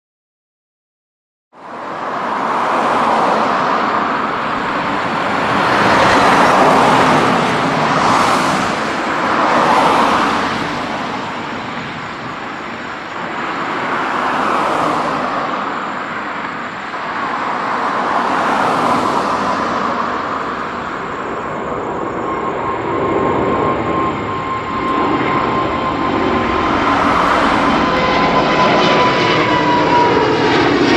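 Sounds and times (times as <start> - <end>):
jet engines roaring: 1.6 - 30.9.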